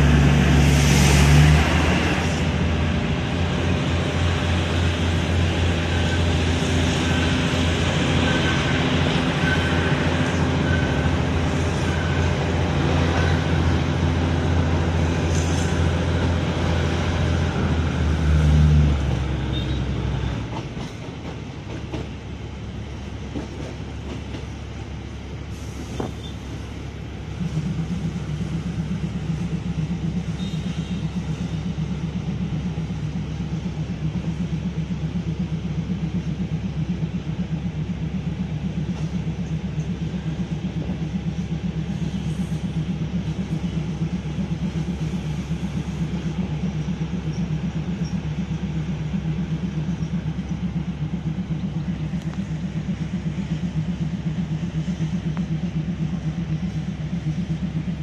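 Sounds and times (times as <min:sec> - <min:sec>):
diesel train engine drone: 0:00.0 - 0:58.0
train wheels on rail: 0:00.0 - 0:58.0.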